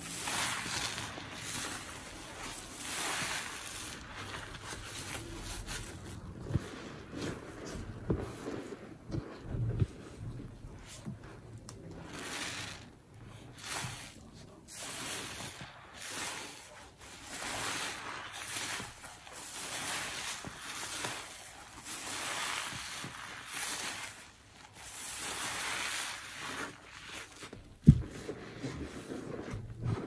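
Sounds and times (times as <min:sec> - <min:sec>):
sponges squelching in suds: 0:00.0 - 0:30.0.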